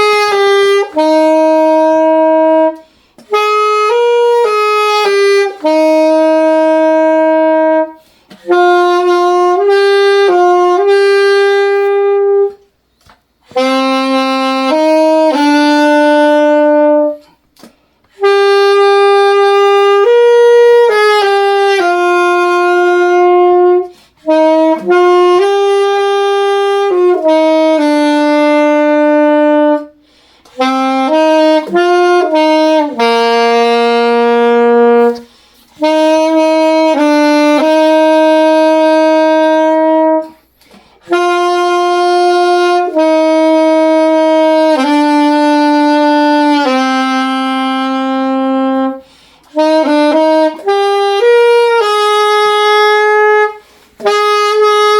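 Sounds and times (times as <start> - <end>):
solo saxophone melody: 0.0 - 54.9.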